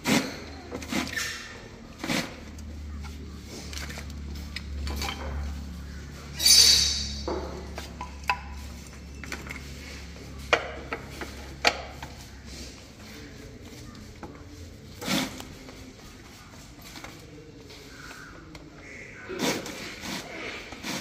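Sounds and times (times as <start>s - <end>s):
wood scraping: 0.0s - 5.7s, 6.4s - 17.2s, 19.3s - 21.0s.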